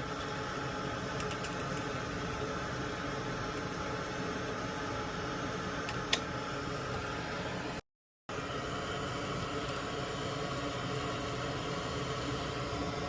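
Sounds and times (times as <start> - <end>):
fan-like whirring hum: 0.0 - 13.0.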